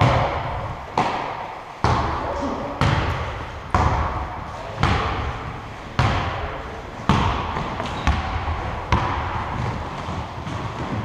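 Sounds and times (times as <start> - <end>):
basketball bouncing on gym floor: 0.0 - 11.0.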